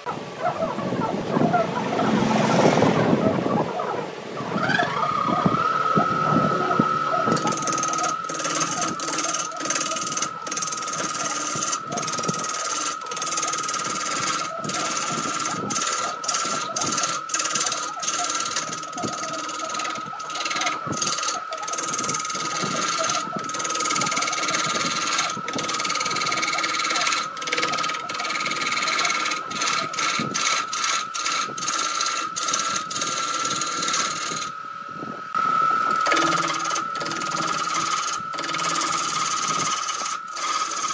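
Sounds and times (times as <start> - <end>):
gouge cutting spinning wood: 0.0 - 34.6, 35.2 - 40.9
wood lathe whining: 0.0 - 40.9.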